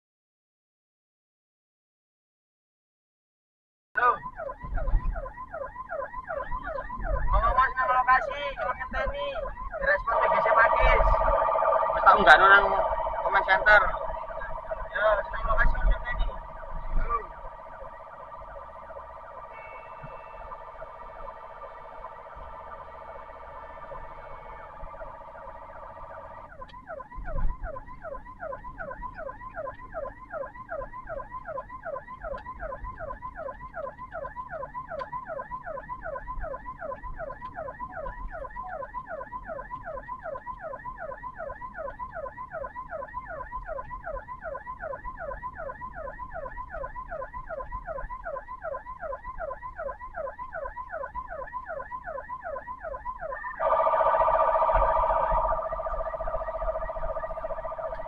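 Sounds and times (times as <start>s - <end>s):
ambulance siren yelping: 4.0s - 58.0s.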